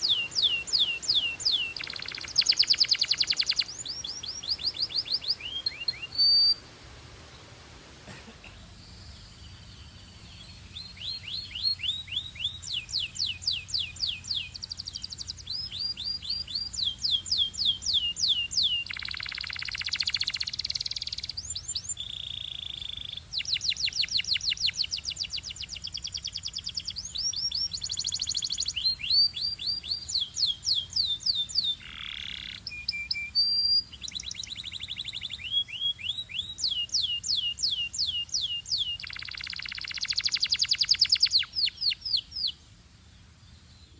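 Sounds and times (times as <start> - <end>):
canary singing fast trills: 0.0 - 6.7, 8.8 - 42.8.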